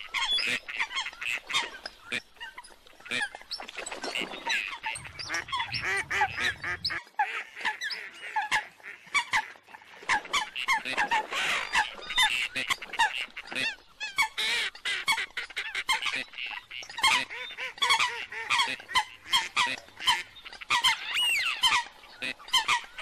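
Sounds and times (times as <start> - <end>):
ducks and water hens calling: 0.0 - 23.0.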